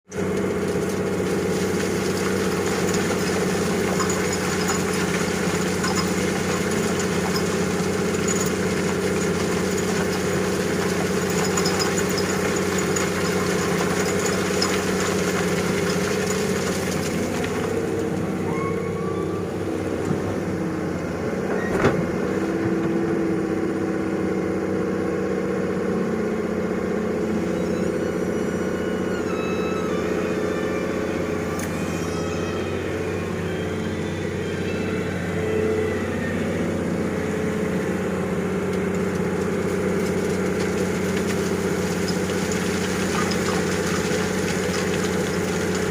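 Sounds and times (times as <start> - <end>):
heavy machine engine droning: 0.1 - 45.9.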